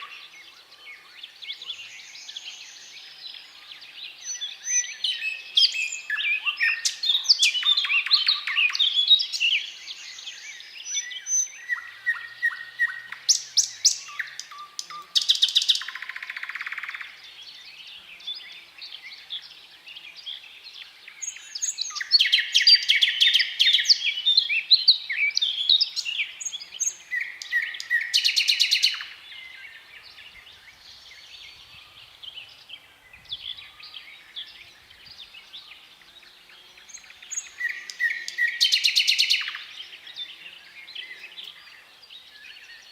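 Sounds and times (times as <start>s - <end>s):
nightingale singing: 0.0s - 42.9s.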